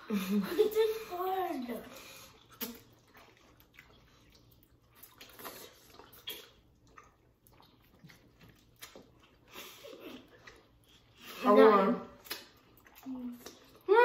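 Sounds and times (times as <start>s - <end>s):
wet mouth chewing and slurping: 2.0s - 11.5s, 12.1s - 14.0s.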